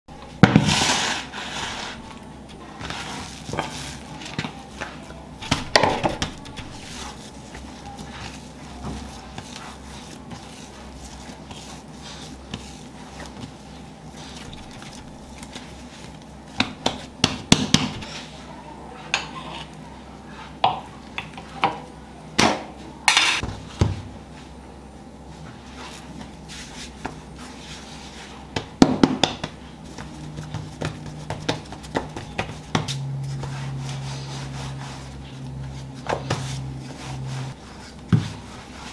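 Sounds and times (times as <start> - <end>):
hands kneading and slapping dough: 0.1 - 18.3, 25.3 - 38.9
steady low hum: 0.1 - 38.9.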